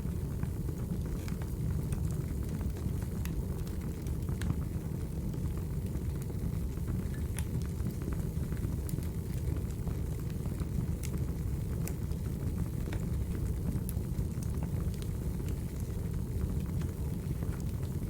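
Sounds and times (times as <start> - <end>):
fire rumbling: 0.0 - 18.0
firewood crackling and popping: 0.1 - 18.0.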